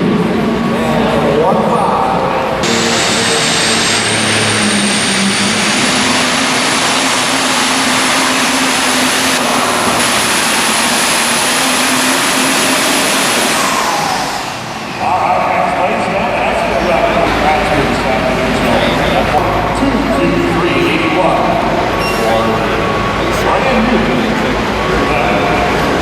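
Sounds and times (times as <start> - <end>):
pickup truck engine full throttle: 2.3 - 26.0.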